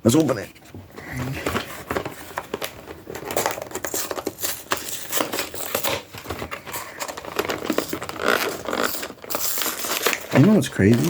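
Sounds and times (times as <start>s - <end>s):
packaging crinkling and tearing: 1.4s - 11.0s.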